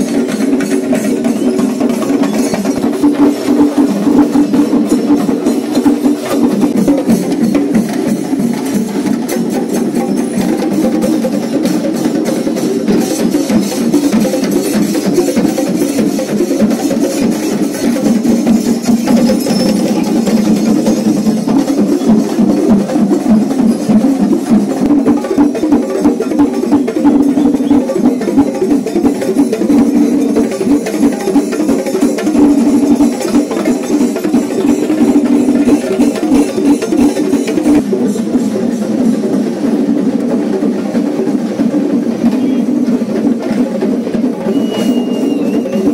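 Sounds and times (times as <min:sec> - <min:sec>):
fast stick-struck drumming: 0:00.0 - 0:45.9.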